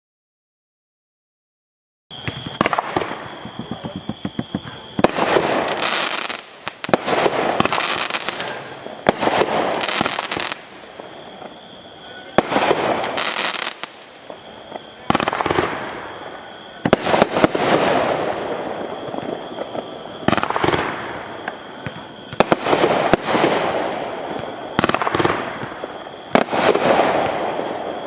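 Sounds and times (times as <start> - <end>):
firework bursts: 2.1 - 28.0.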